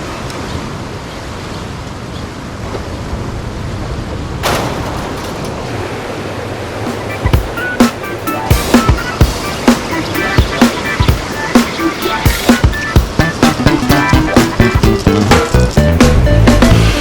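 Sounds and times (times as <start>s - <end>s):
ocean surf: 0.0s - 17.0s
wind: 0.0s - 17.0s
wave breaking: 2.6s - 17.0s.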